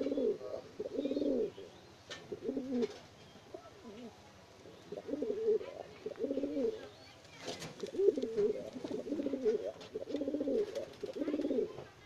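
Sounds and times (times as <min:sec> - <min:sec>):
pigeons cooing: 0:00.0 - 0:06.9, 0:07.6 - 0:11.8.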